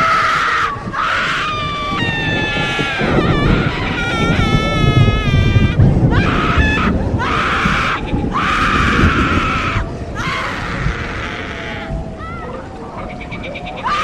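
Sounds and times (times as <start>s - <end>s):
long harsh screams: 0.0s - 12.6s, 13.8s - 14.0s
low rumbling background: 0.0s - 13.4s.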